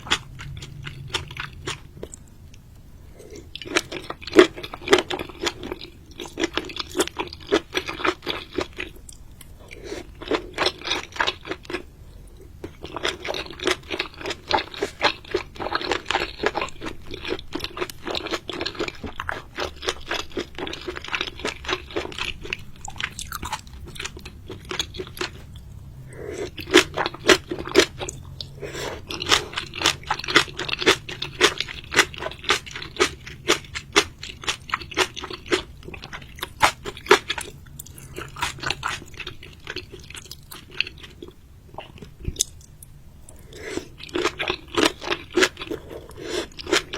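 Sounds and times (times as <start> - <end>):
person chewing crunchy food: 0.0 - 46.9.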